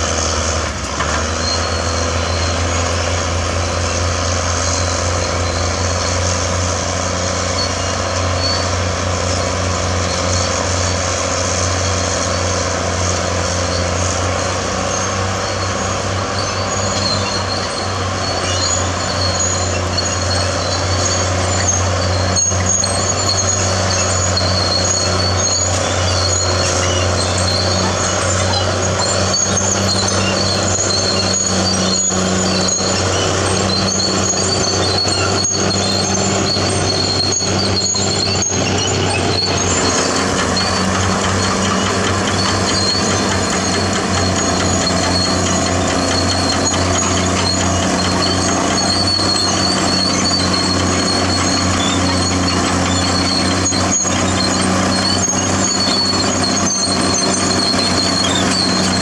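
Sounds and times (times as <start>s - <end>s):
bulldozer diesel engine running: 0.0s - 59.0s
high-pitched squeaking: 1.2s - 59.0s.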